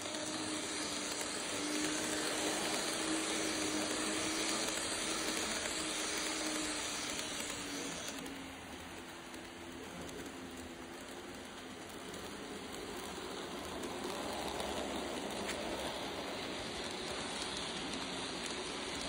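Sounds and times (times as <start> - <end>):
faint motor hum: 0.0 - 19.0
model train wheels whirring on rail: 0.0 - 19.0.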